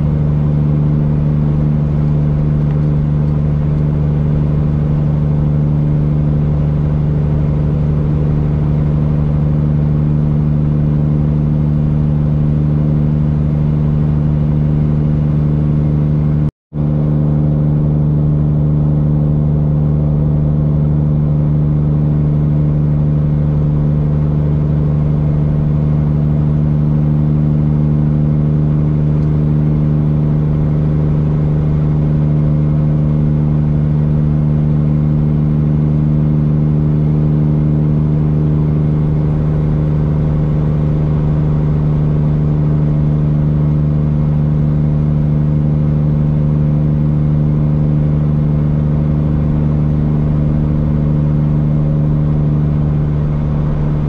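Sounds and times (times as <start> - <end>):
diesel truck engine drone: 0.0 - 54.0.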